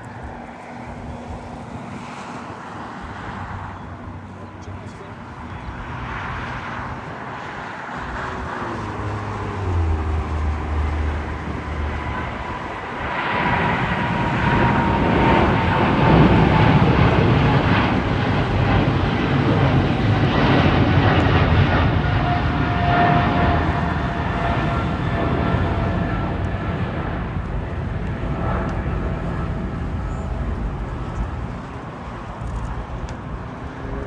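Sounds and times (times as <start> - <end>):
jet engines at takeoff thrust: 0.0 - 34.0.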